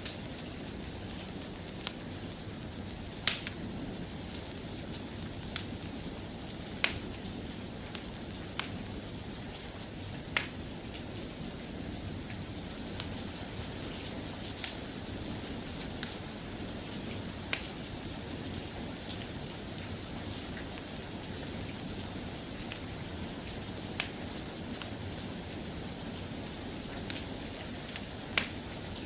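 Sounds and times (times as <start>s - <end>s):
soft rain: 0.0s - 29.0s.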